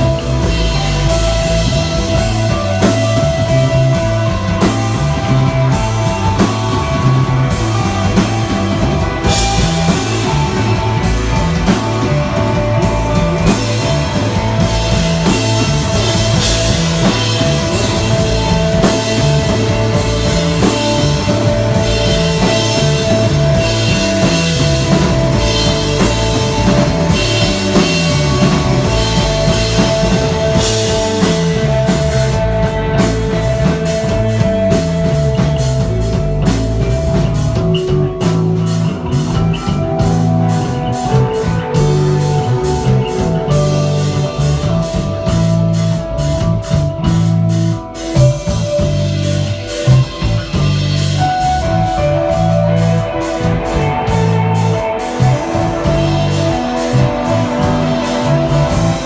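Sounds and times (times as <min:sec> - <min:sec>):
bass line: 0:00.0 - 0:59.0
drum kit: 0:00.0 - 0:59.0
electric guitar sustained notes: 0:00.0 - 0:59.0.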